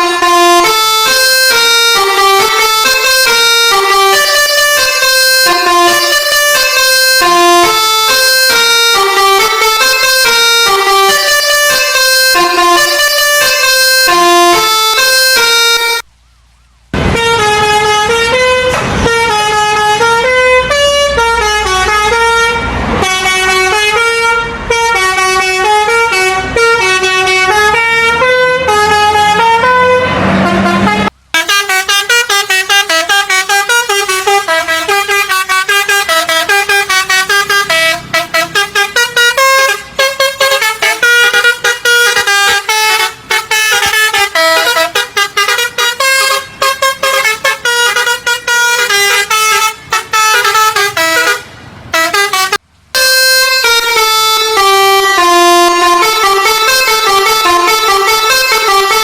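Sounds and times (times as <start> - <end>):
musical bus horn playing melodies: 0.0 - 16.1, 17.0 - 59.0.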